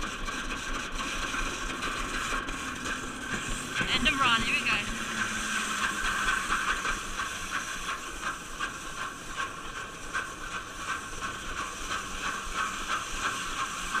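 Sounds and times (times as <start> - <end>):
sled clicks and rattles: 0.0 - 14.0
toboggan hissing rush: 2.5 - 14.0.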